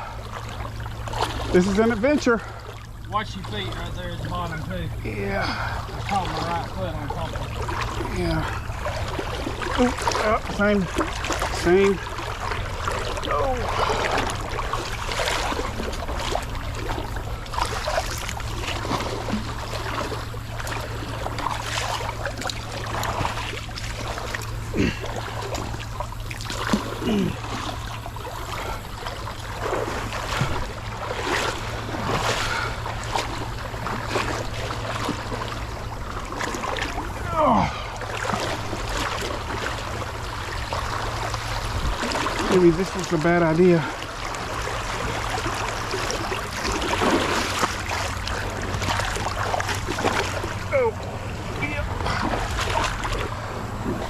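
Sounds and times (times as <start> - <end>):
feet splashing through water: 0.0 - 54.0
low rumble: 0.0 - 54.0.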